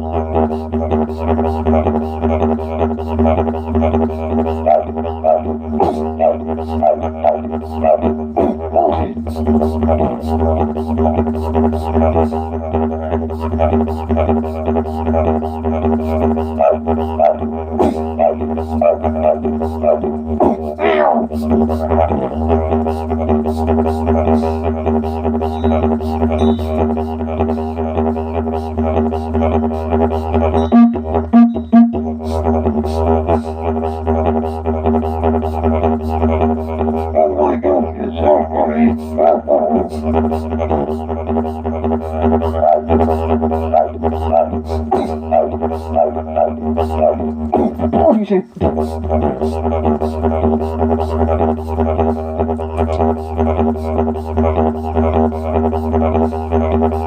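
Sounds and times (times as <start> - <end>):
didgeridoo drone: 0.0 - 57.0.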